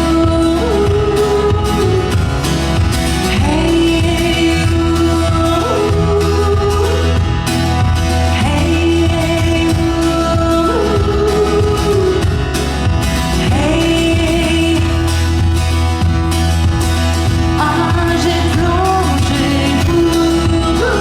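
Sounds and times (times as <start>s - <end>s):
person singing: 0.0s - 15.6s, 17.5s - 21.0s
guitar accompaniment: 0.0s - 21.0s.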